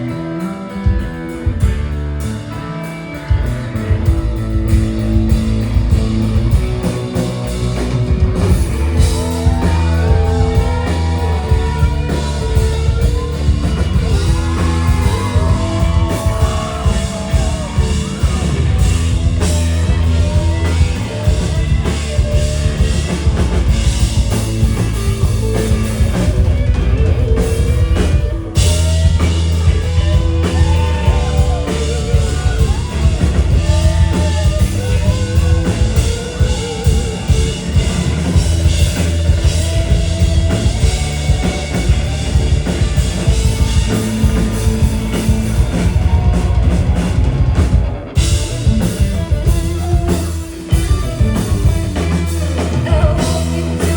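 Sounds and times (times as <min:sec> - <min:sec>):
electric guitar: 0:00.0 - 0:53.9
live psychedelic rock band: 0:00.0 - 0:53.9
loud drum kit: 0:00.0 - 0:53.9.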